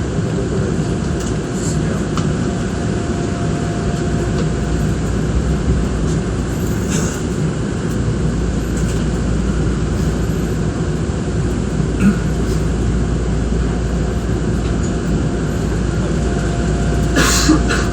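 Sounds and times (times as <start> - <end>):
train rumble and hiss: 0.0 - 17.9.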